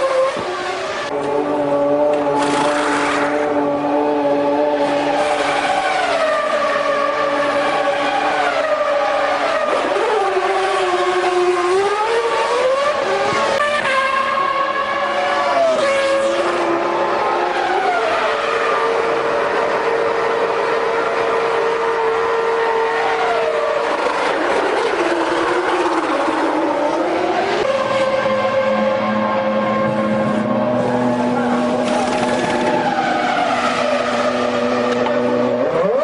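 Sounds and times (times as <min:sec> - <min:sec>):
racing car engines revving: 0:00.0 - 0:36.0.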